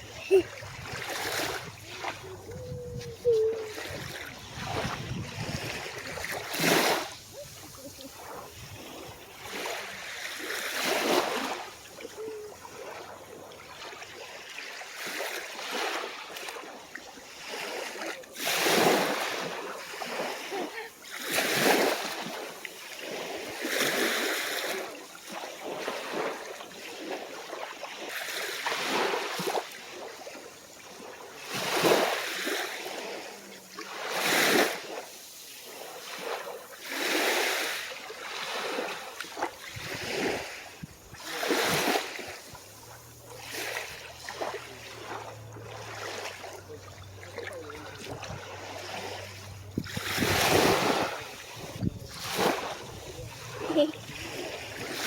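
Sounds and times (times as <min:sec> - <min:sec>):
small waves washing on beach: 0:00.0 - 0:55.0.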